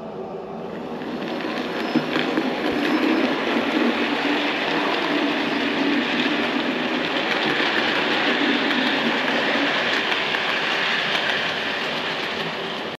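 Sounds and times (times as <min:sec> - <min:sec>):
model train wheels rumbling on rails: 0:00.9 - 0:13.0.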